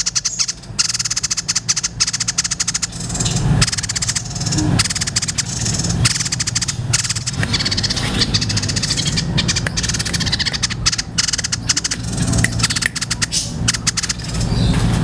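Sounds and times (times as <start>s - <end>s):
bird chattering trills: 0.0s - 15.0s
steady low hum: 0.0s - 15.0s.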